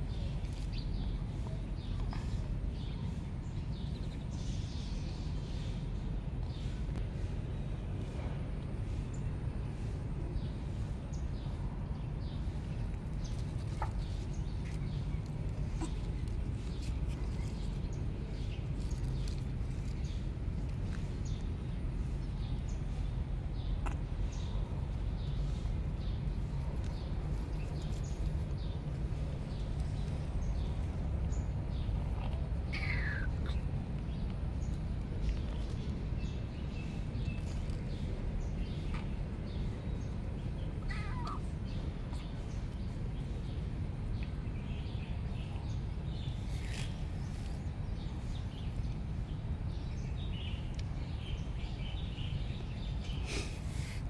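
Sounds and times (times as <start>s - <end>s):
steady low rumble: 0.0s - 53.8s.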